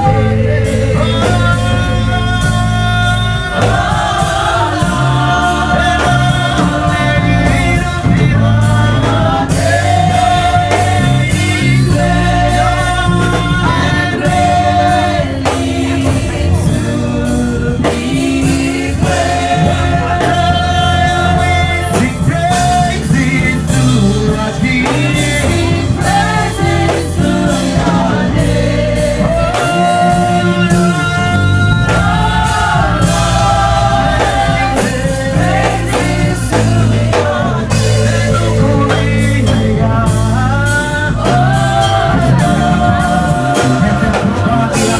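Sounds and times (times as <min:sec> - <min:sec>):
gospel singing with live band: 0:00.0 - 0:44.9.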